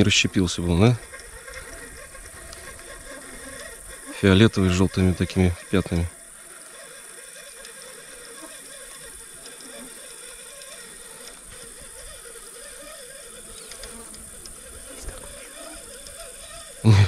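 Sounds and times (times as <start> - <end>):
fishing reel whirring and clicking: 0.0 - 16.9.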